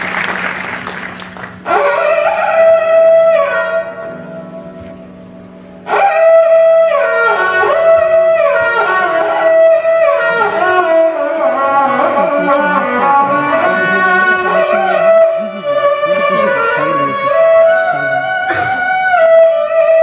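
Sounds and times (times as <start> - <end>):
bowed string melody: 0.0 - 20.0
held drone note: 1.6 - 20.0.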